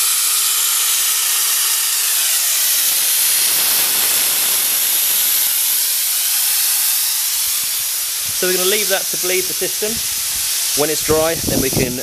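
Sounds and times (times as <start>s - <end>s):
vacuum brake bleeder hissing: 0.0s - 12.0s.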